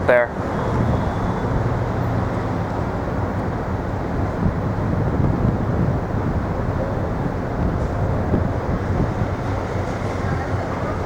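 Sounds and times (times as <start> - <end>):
faint engine hum: 0.0 - 11.0
street traffic rumble: 0.0 - 11.0.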